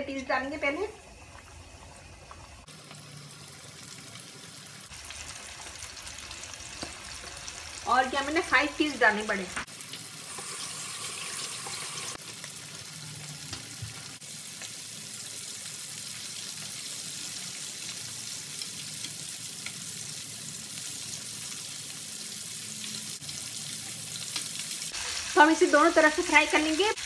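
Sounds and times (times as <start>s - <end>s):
oil sizzling and bubbling: 0.0s - 27.0s.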